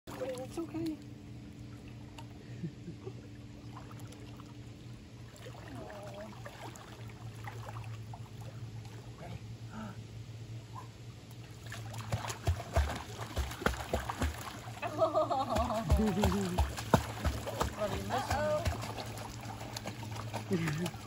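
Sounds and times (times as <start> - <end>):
dog paddling splashing: 0.1 - 2.3, 3.6 - 9.2, 11.4 - 21.0
water sloshing and lapping: 0.1 - 9.6, 10.7 - 21.0
steady low hum: 0.1 - 21.0.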